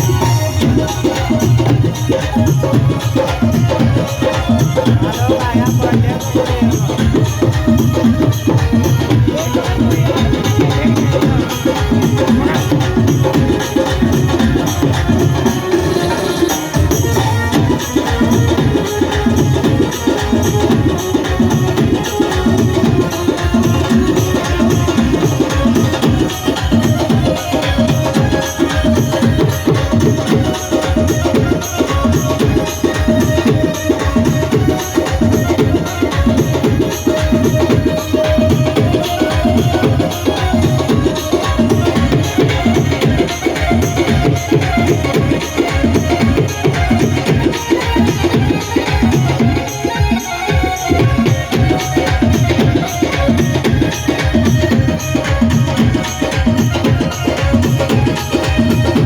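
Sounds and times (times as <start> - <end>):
fast percussion rhythm: 0.0 - 59.0.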